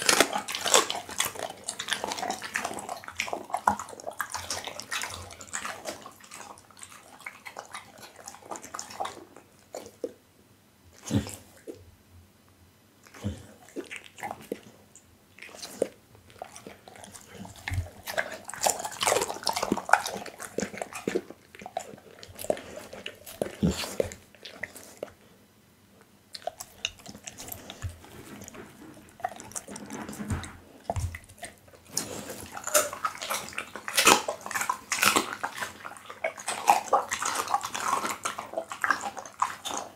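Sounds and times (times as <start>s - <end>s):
dog chewing meat wetly: 0.0s - 10.2s, 13.0s - 25.4s, 26.0s - 39.9s.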